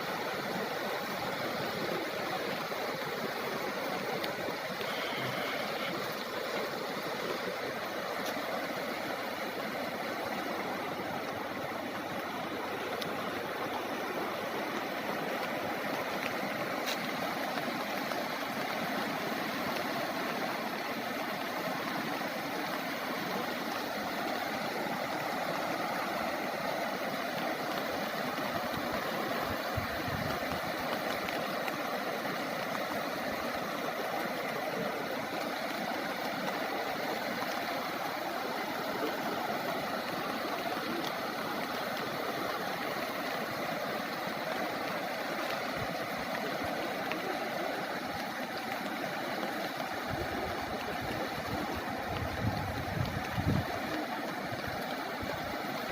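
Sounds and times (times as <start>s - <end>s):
floodwater rushing: 0.0s - 55.9s.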